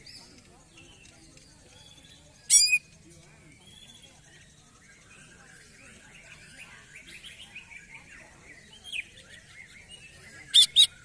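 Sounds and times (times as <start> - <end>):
bird chirping and trilling: 0.0 - 11.0.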